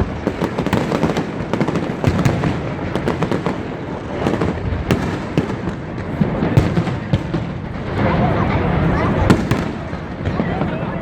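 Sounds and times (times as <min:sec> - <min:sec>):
fireworks crackling and popping: 0:00.0 - 0:11.0
fireworks sharp bangs: 0:00.0 - 0:11.0.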